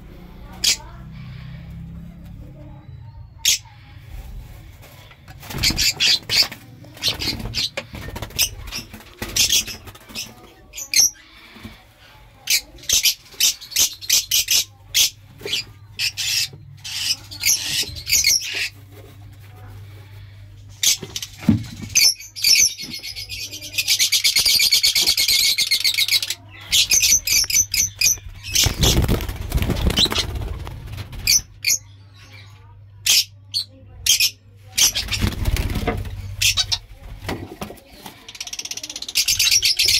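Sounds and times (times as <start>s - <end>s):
bird chicks chirping: 5.3s - 19.1s, 19.8s - 37.2s, 37.9s - 39.9s.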